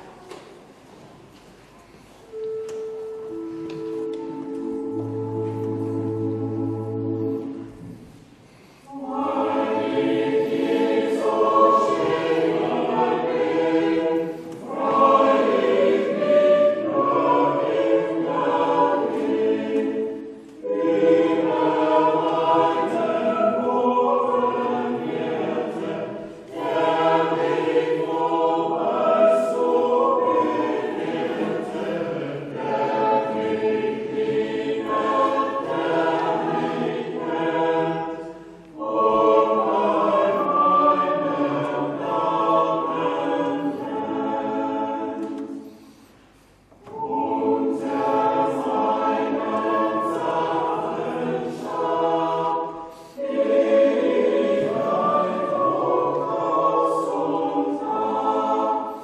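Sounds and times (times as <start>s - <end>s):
choir singing a hymn: 2.1s - 59.0s.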